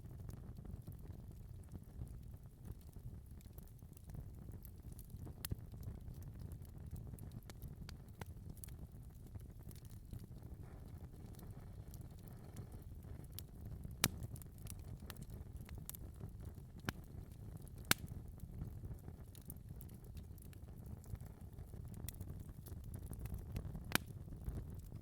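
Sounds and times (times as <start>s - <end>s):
fire crackling and popping: 0.0s - 25.0s
rumble of flames: 0.0s - 25.0s.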